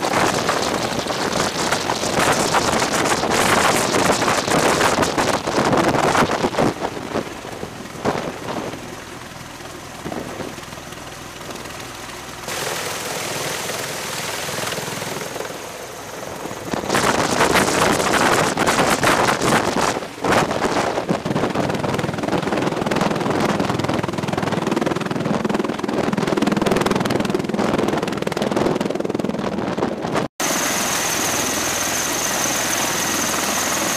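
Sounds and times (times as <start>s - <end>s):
aircraft rotors and engines running: 0.0s - 33.9s
rotor wash buffeting microphone: 0.0s - 33.9s
wind: 0.0s - 33.9s.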